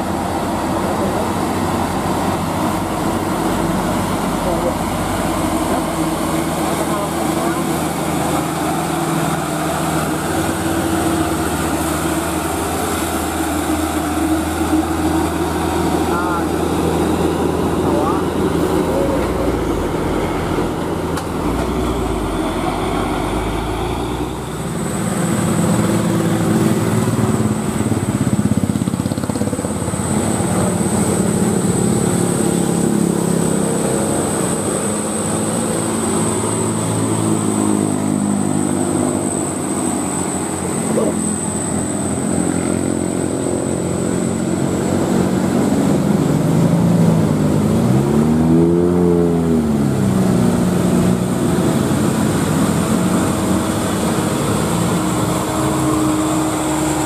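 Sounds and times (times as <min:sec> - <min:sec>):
diesel trucks pulling uphill: 0:00.0 - 0:57.0
motorcycles passing: 0:00.0 - 0:57.0.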